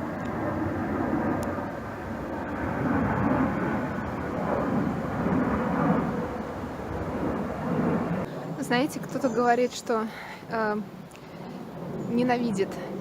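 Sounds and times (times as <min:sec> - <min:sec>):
airplane flying past: 0:00.0 - 0:13.0.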